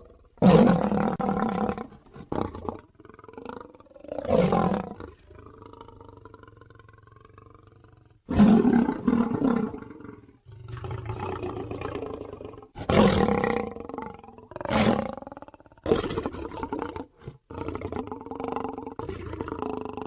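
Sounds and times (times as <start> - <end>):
lion roaring: 0.0 - 20.0.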